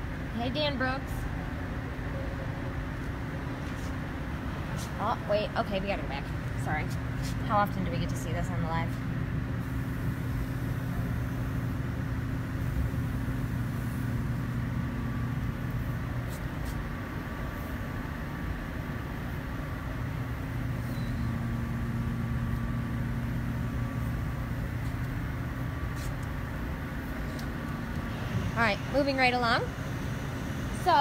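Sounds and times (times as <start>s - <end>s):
fans humming: 0.0s - 31.0s.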